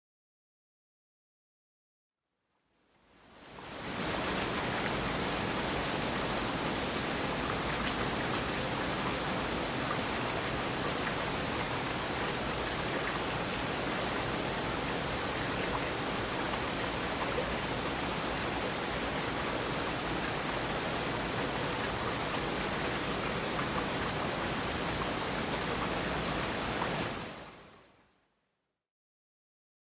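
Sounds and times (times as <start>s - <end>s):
stream water rushing over a drop: 3.2s - 27.8s.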